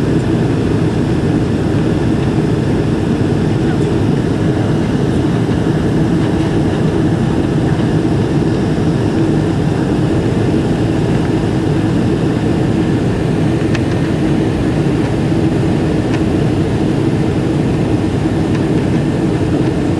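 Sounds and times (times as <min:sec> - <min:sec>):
jet engine cabin noise: 0:00.0 - 0:19.9
steady hum: 0:00.0 - 0:19.9.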